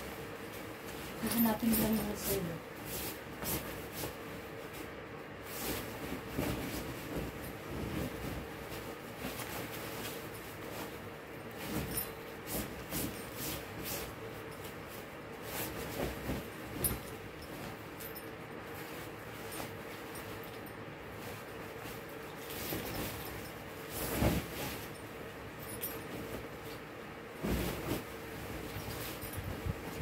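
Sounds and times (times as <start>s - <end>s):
bedding fabric rustling: 0.0s - 30.0s.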